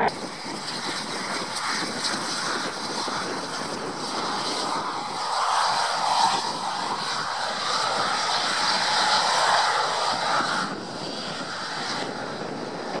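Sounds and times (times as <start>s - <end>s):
jet engines rushing and whining: 0.0s - 13.0s.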